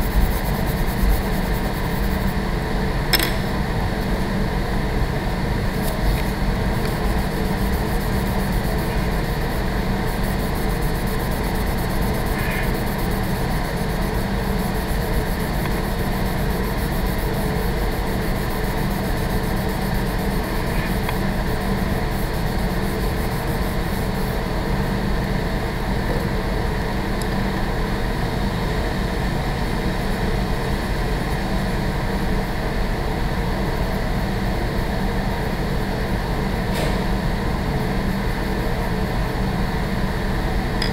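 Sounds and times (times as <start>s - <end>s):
ventilation system humming: 0.0s - 40.9s.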